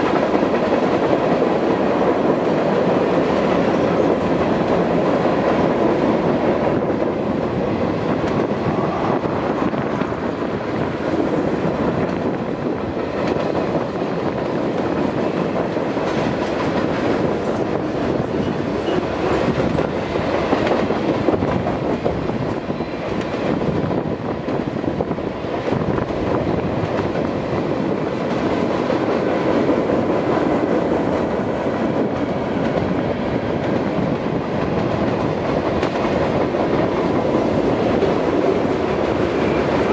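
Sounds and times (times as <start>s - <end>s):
train cars rumbling: 0.0s - 39.9s.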